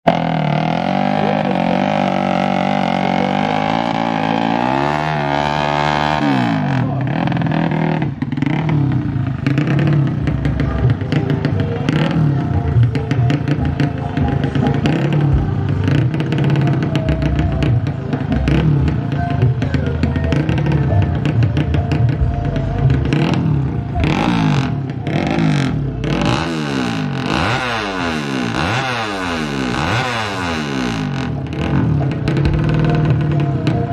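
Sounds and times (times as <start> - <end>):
motorbike engine revving: 0.0 - 33.9
background music with beat: 0.2 - 33.9.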